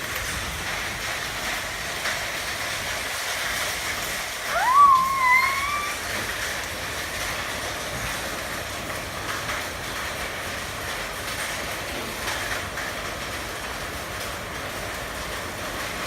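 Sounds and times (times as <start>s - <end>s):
hail clattering on hard surfaces: 0.0s - 16.0s.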